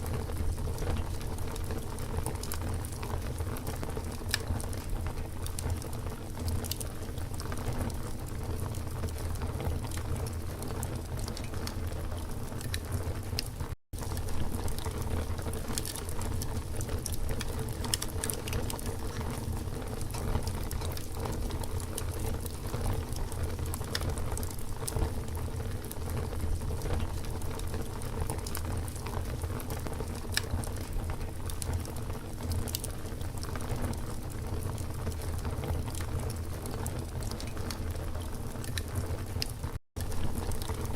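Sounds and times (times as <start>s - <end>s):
low rumble of flames: 0.0s - 40.9s
wood crackling and popping: 0.0s - 40.9s.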